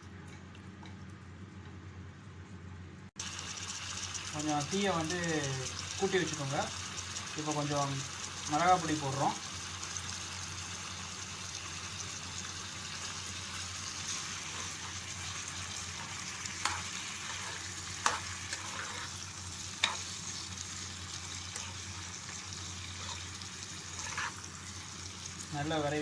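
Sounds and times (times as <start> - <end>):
liver sizzling in hot oil: 3.2 - 26.0.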